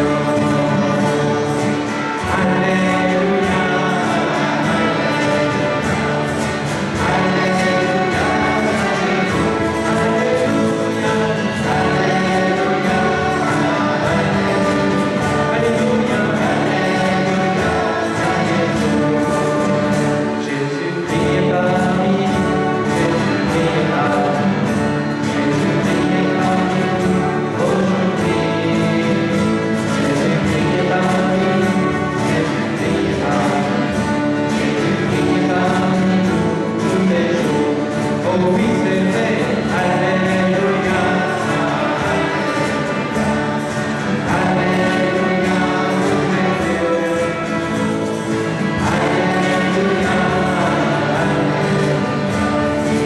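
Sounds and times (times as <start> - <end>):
choir singing a hymn: 0.0 - 53.0
trumpet flute and guitars: 0.0 - 53.0.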